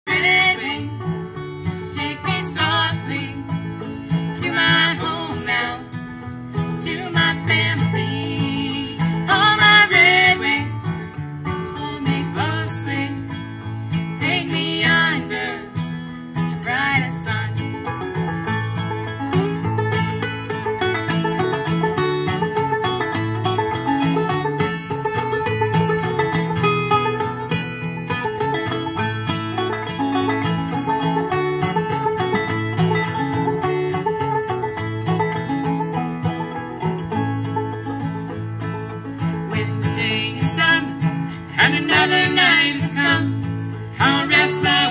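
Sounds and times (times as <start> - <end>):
acoustic guitar and banjo: 0.0 - 44.9.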